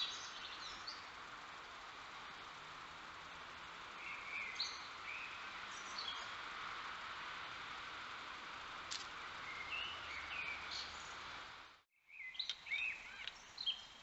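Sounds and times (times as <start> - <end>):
wild birds chirping: 0.0 - 8.6, 9.2 - 11.4, 12.0 - 14.0
steady background hiss: 0.0 - 14.0.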